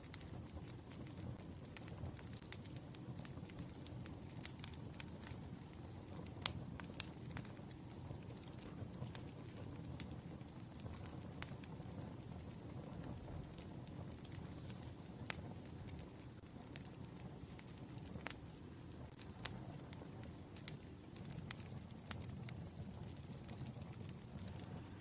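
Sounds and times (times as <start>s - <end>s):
firewood crackling and popping: 0.0s - 25.0s.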